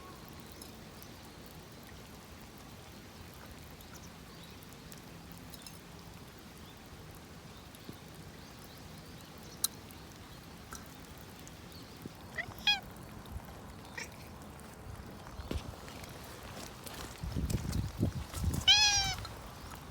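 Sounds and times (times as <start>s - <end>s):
faint rain: 0.0s - 19.9s.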